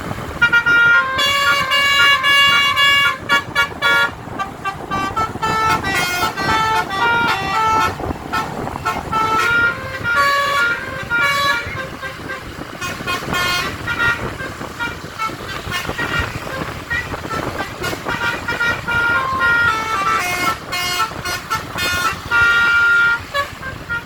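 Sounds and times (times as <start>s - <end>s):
musical car horn tune: 0.4s - 24.0s.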